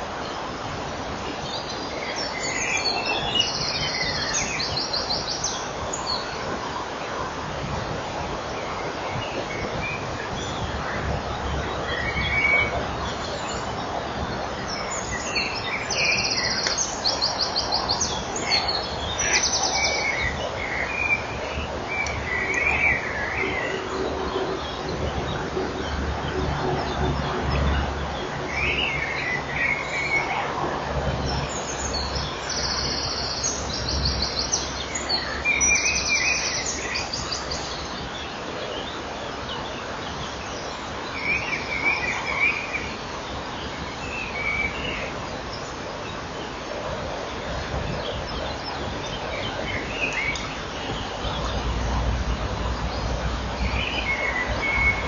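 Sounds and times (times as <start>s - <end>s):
birds chirping: 8.6s - 55.0s.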